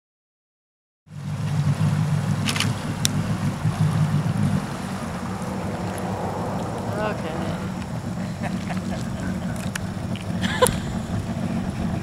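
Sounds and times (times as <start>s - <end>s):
jet ski engine drone: 1.1s - 12.0s.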